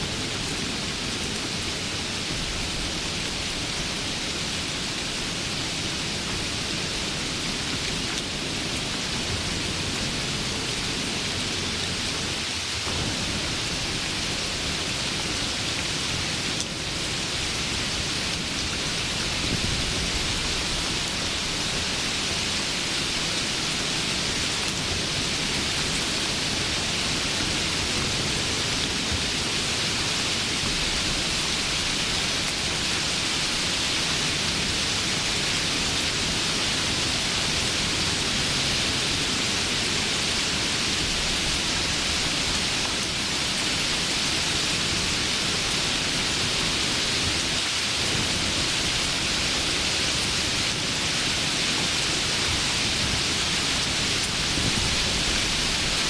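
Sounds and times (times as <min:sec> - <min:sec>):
steady rainfall hiss: 0:00.0 - 0:56.0.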